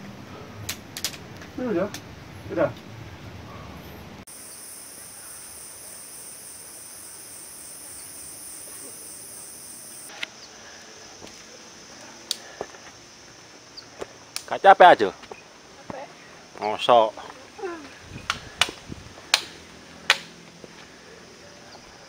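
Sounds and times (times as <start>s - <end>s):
shrill insect chorus: 4.3s - 22.0s.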